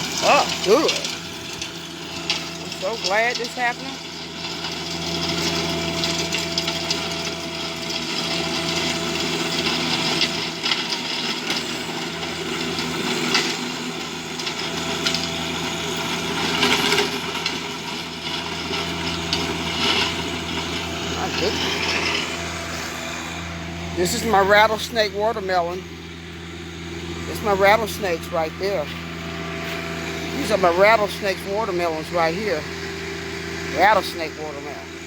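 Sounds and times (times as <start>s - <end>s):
tiller grinding soil: 0.0s - 35.0s
tractor engine running: 0.0s - 35.0s.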